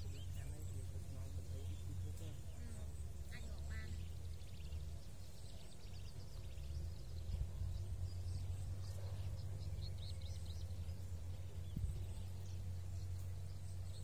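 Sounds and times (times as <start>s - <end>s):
bird chirps: 0.0s - 14.0s
low rumble: 0.0s - 14.0s.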